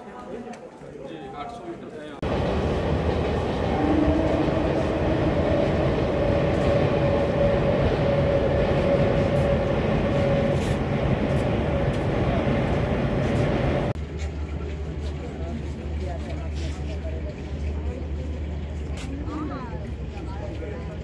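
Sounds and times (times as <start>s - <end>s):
train wheels rumbling on track: 2.2s - 21.0s.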